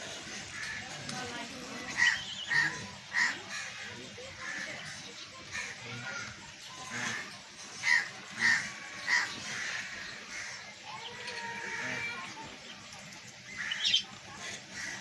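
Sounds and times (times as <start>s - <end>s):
loud harsh bird calls: 0.1s - 15.0s
faint bird calls: 0.3s - 15.0s.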